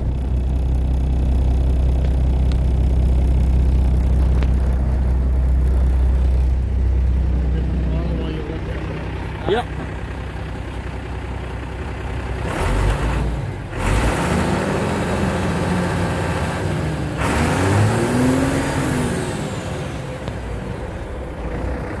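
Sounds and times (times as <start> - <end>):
diesel engine revving and idling: 0.0 - 22.0.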